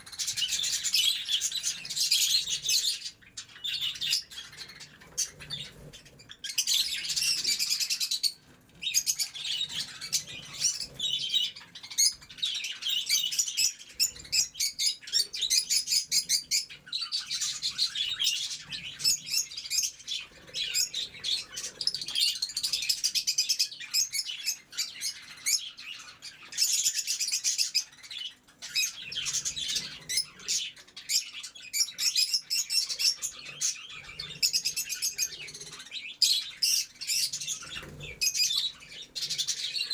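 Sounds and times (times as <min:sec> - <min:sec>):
birds chattering and chirping: 0:00.0 - 0:39.9.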